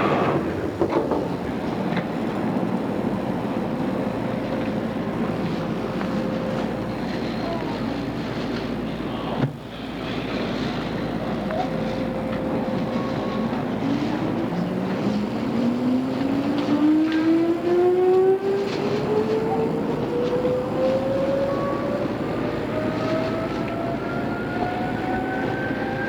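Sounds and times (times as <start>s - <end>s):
train traction motors whining: 0.0s - 26.0s
wheels rumbling on rail: 0.0s - 26.0s.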